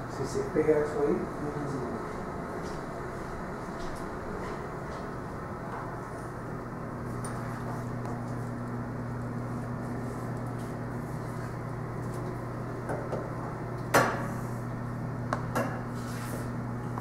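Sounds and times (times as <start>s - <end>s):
fan hiss: 0.0s - 17.0s
low electrical hum: 0.0s - 17.0s.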